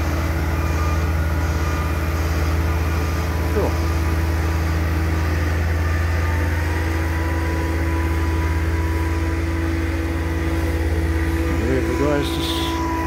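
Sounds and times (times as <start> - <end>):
diesel truck engine running: 0.0 - 13.0
steady whine: 0.0 - 13.0.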